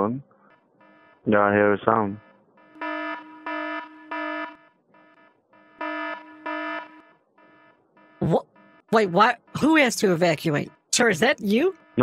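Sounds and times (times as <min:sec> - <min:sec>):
electronic alarm horn blasts: 0:02.2 - 0:12.0.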